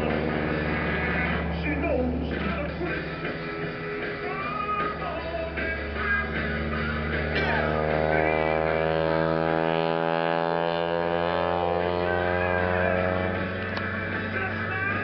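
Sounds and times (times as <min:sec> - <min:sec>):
propeller plane engine droning: 0:00.0 - 0:15.0
rock music: 0:00.0 - 0:15.0.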